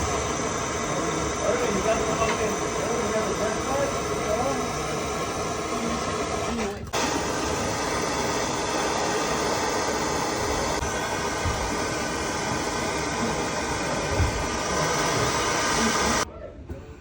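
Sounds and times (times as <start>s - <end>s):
gas torch hissing: 0.0s - 16.3s.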